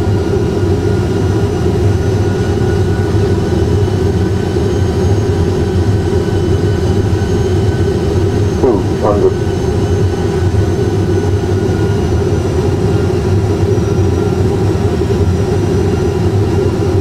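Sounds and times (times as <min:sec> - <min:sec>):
engine and airflow drone: 0:00.0 - 0:17.0.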